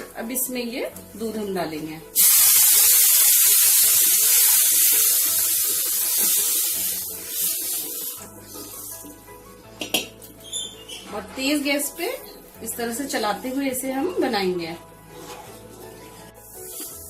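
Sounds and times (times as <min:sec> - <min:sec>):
milk sizzling in a hot pan: 0:02.1 - 0:10.4, 0:11.6 - 0:17.0.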